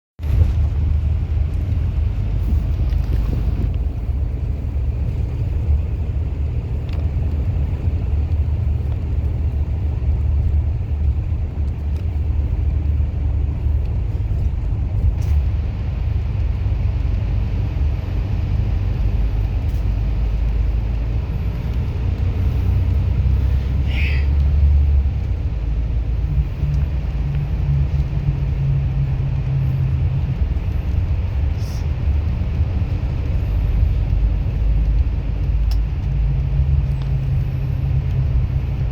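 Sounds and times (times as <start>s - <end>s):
bus engine rumbling drone: 0.2s - 38.9s.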